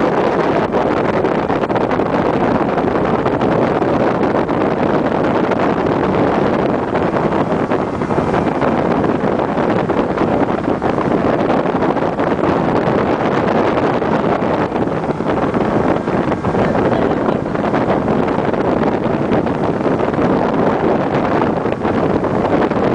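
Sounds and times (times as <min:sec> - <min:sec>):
water and boat noise: 0:00.0 - 0:22.9
wind buffeting microphone: 0:00.0 - 0:22.9.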